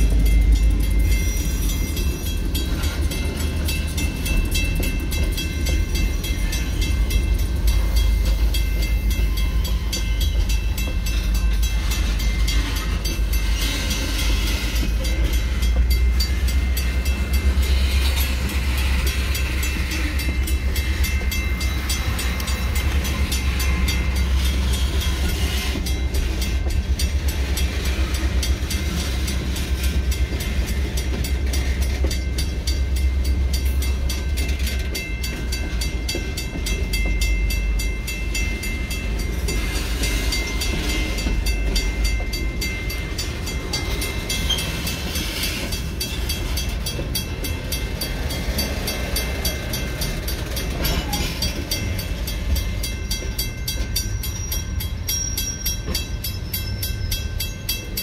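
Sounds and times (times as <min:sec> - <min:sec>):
freight train rumble: 0:00.0 - 0:58.0
wheels clacking over rails: 0:00.0 - 0:58.0.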